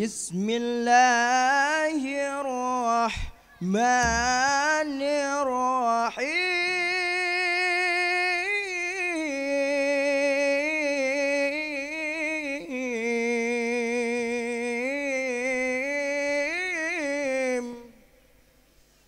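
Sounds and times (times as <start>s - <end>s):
person singing unaccompanied: 0.0s - 18.1s.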